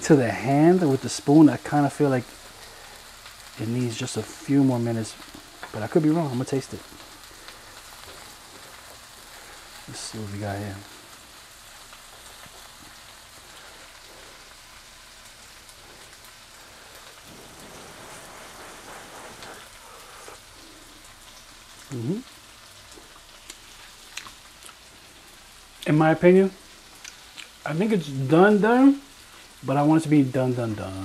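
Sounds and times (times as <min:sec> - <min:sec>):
onions sizzling in a frying pan: 0:00.0 - 0:31.0.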